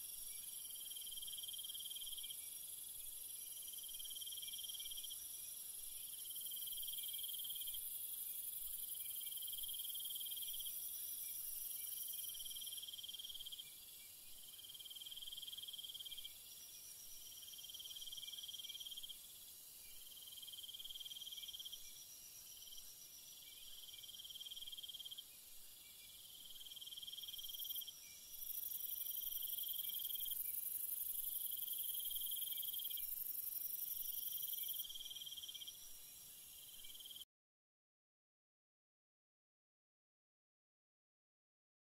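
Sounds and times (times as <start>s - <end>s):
insects pulsing trill: 0.0s - 37.2s.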